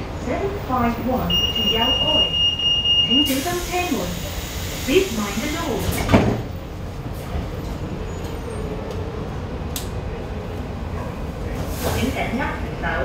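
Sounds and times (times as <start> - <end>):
rail car rumble: 0.0 - 13.0.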